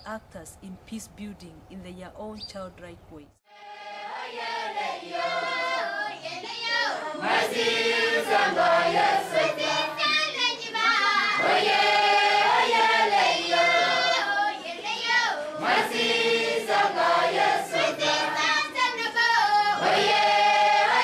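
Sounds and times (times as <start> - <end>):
children's choir singing: 3.5 - 21.0.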